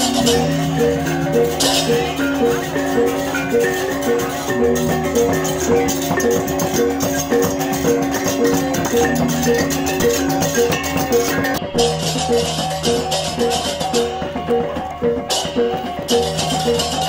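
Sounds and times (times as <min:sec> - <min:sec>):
gamelan playing: 0:00.0 - 0:17.0
hand cymbals clashing: 0:00.0 - 0:17.0
two-headed drums: 0:00.0 - 0:17.0.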